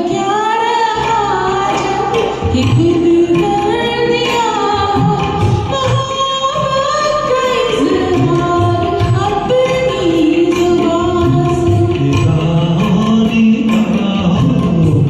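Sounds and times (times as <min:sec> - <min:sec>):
person singing over karaoke track: 0:00.0 - 0:15.0.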